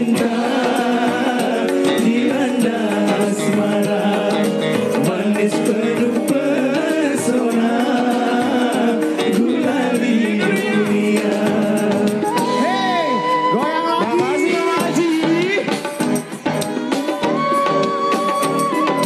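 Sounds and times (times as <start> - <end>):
band playing pop song: 0.0 - 19.0
person singing: 0.0 - 19.0.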